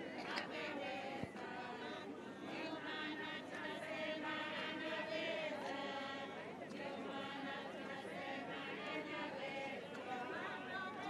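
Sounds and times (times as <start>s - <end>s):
women singing in chorus: 0.0s - 11.0s.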